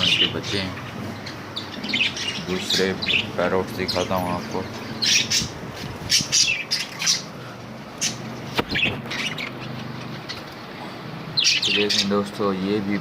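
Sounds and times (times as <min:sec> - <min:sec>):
budgerigars chirping and squawking: 0:00.0 - 0:10.7, 0:11.3 - 0:13.0.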